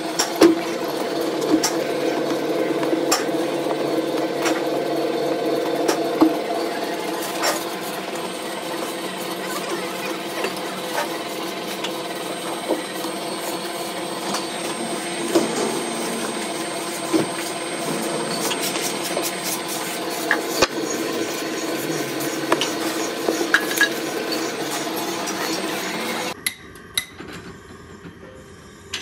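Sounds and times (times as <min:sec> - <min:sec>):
workshop machinery humming: 0:00.0 - 0:26.4.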